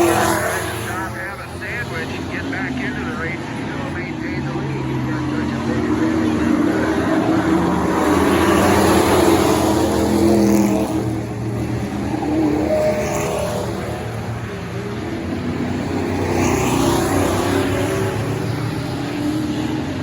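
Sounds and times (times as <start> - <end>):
racing truck engines passing: 0.0 - 20.0.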